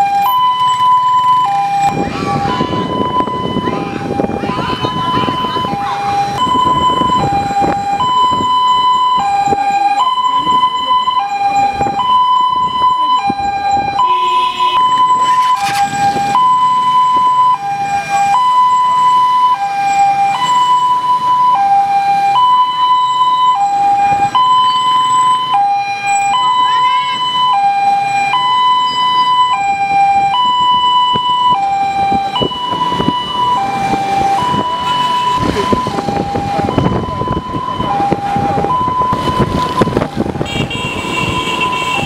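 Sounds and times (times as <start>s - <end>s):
road traffic rumble: 0.0s - 42.0s
two-tone siren: 0.0s - 42.0s.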